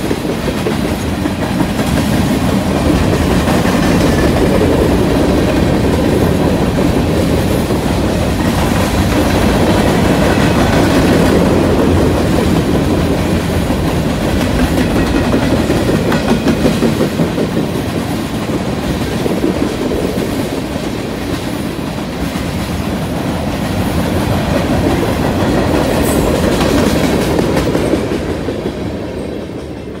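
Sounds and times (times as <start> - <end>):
freight train wheels clacking: 0.0 - 30.0.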